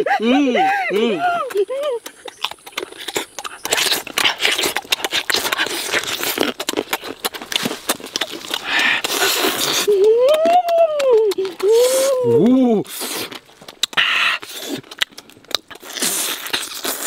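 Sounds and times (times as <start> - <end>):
chewing and lip smacking: 0.9 - 17.0.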